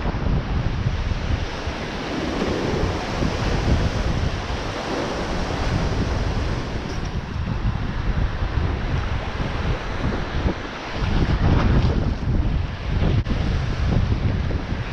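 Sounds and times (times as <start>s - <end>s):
surf washing over sand: 0.0s - 14.9s
wind buffeting microphone: 0.0s - 14.9s.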